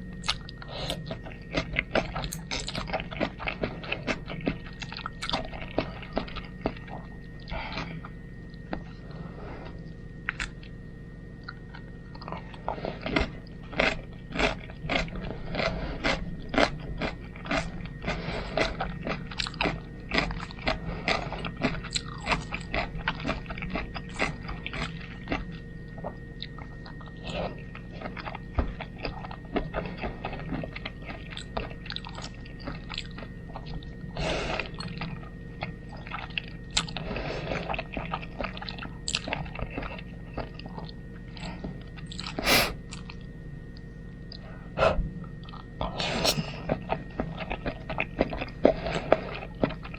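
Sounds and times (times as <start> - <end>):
person chewing spaghetti: 0.2 - 10.7, 11.4 - 43.3, 44.3 - 49.9.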